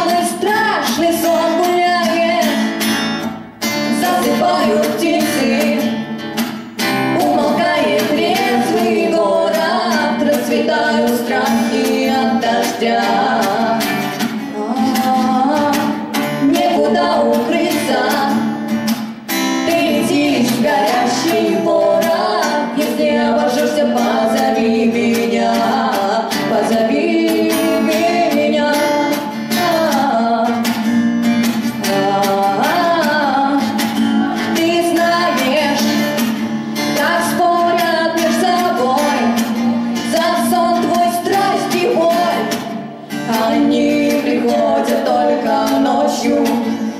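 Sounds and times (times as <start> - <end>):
woman singing: 0.0 - 2.9, 3.8 - 6.2, 6.8 - 18.8, 19.6 - 46.9
acoustic guitar: 0.0 - 46.9.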